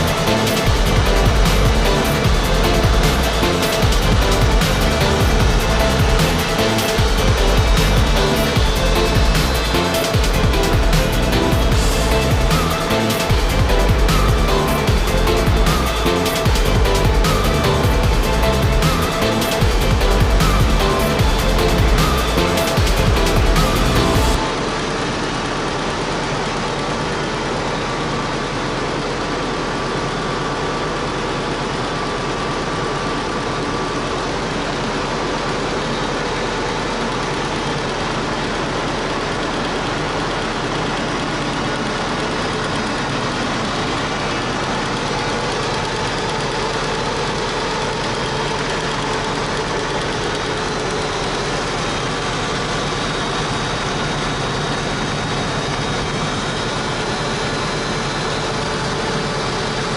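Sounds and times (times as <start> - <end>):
helicopter engine running: 0.0 - 59.9.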